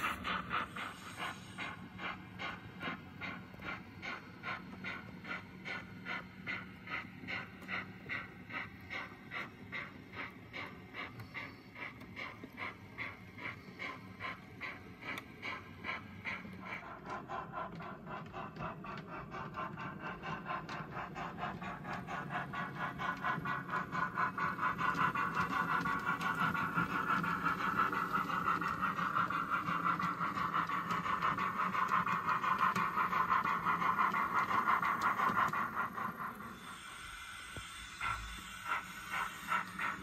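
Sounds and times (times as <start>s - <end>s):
model train ticking and humming: 0.0s - 40.0s.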